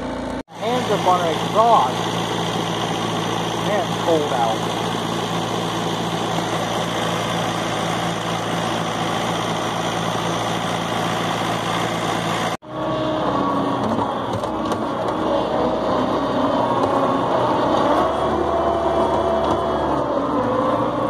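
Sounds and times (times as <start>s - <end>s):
engine idling: 0.0s - 21.0s
high whine: 0.0s - 21.0s.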